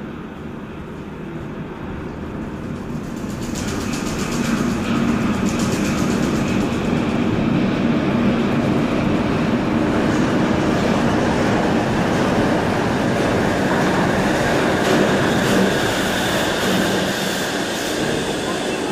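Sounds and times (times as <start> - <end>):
monorail train running noise: 0.0 - 18.9.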